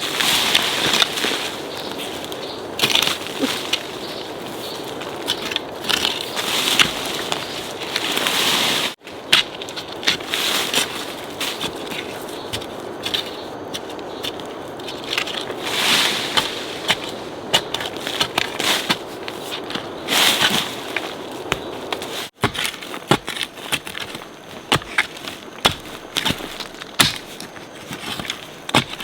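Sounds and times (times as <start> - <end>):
twigs crunching and snapping: 0.2 - 8.4, 9.0 - 29.0.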